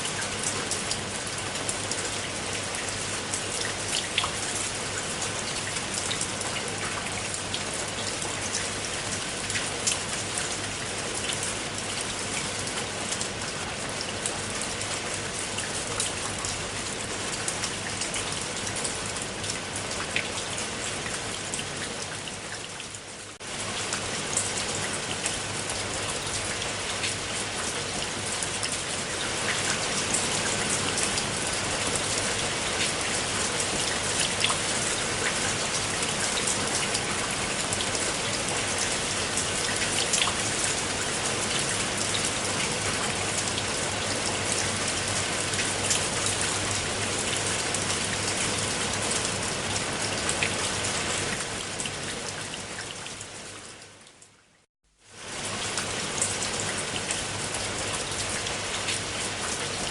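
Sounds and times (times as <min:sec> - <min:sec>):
raindrops striking close by: 0:00.0 - 0:59.9
steady rain: 0:00.0 - 0:59.9.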